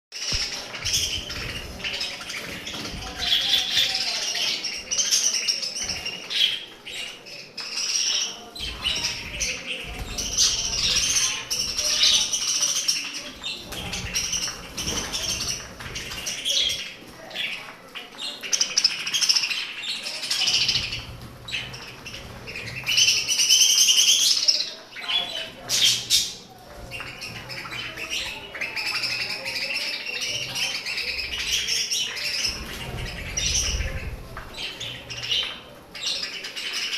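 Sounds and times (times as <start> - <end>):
budgerigars chattering and chirping: 0.2 - 36.9.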